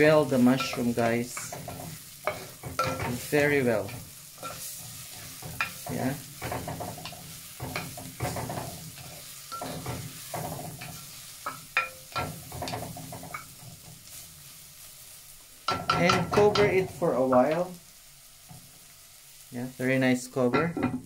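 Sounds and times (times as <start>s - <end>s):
steady sizzle: 0.0s - 21.0s.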